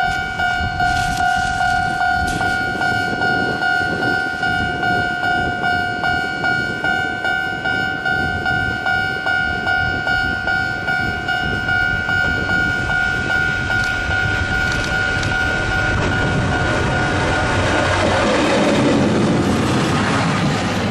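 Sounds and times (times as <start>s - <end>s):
level crossing warning bell: 0.0s - 17.8s
train rumble: 0.0s - 20.9s.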